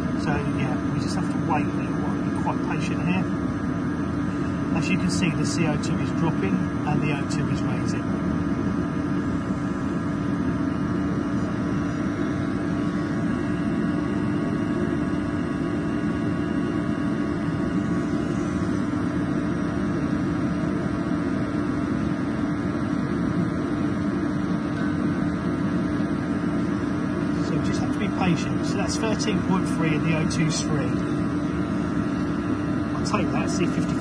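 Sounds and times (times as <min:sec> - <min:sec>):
boiler burner fan and flame: 0:00.0 - 0:34.0
steady hum: 0:00.0 - 0:34.0.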